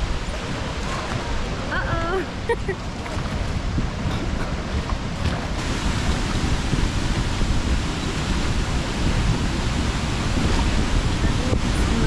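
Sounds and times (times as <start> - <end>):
waterfall roaring: 0.0 - 12.0
wind buffeting microphone: 0.0 - 12.0.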